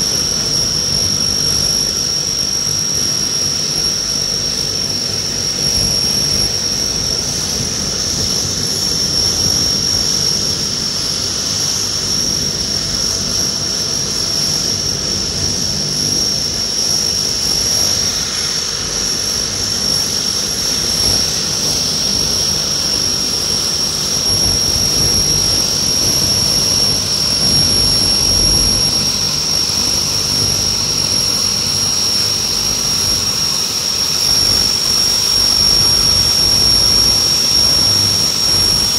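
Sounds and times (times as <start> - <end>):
turboprop turbine whine: 0.0 - 38.9.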